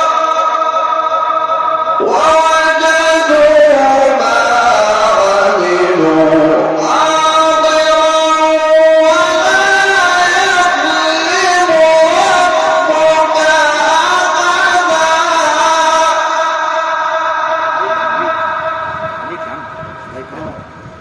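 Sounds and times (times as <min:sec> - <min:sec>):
man reciting melodically: 0:00.0 - 0:20.8.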